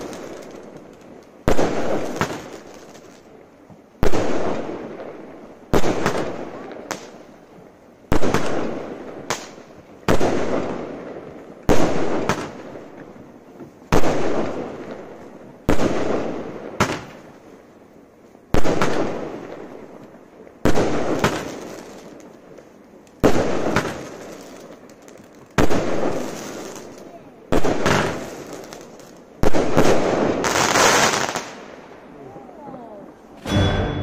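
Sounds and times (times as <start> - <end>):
firework bangs with hiss: 0.0 - 32.0.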